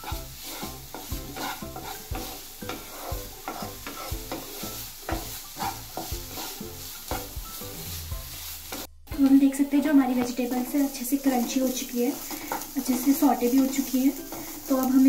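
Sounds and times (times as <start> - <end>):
spatula scraping frying pan: 0.0 - 15.0
vegetables sizzling: 0.0 - 15.0.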